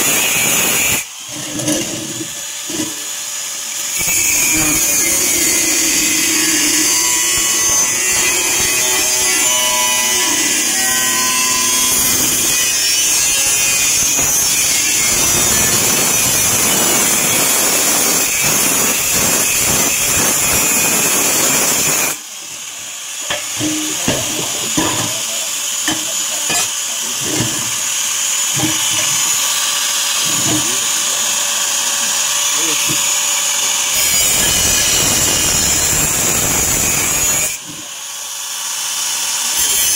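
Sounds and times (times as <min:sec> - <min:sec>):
power tool cutting steel: 0:00.0 - 0:39.9.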